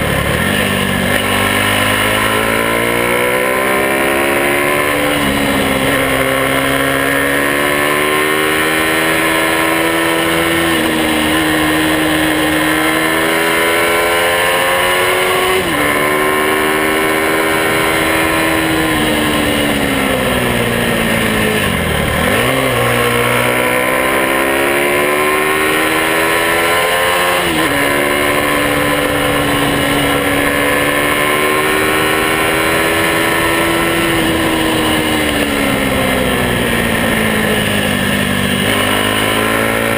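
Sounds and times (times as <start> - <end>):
small motorcycle engine: 0.0 - 39.9.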